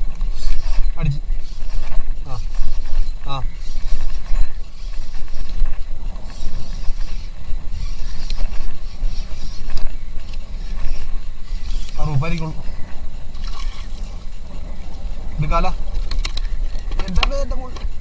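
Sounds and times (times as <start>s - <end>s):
wind and water rumble: 0.0s - 18.0s.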